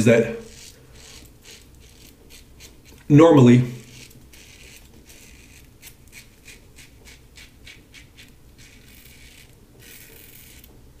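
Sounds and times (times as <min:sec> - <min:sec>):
razor scraping stubble: 0:00.0 - 0:10.7.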